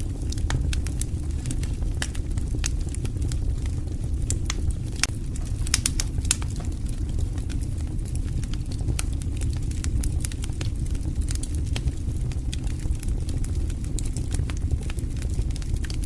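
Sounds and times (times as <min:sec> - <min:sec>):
low rumble of burning: 0:00.0 - 0:16.0
wood fire crackling: 0:00.0 - 0:16.0.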